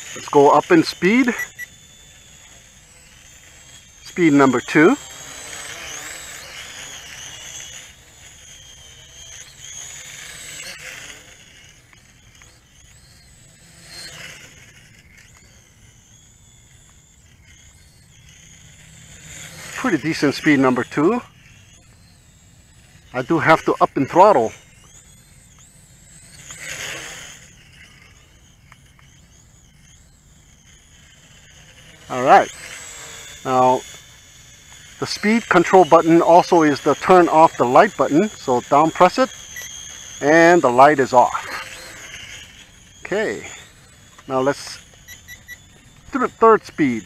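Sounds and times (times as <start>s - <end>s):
toy quadcopter motors whining: 0.0s - 47.0s.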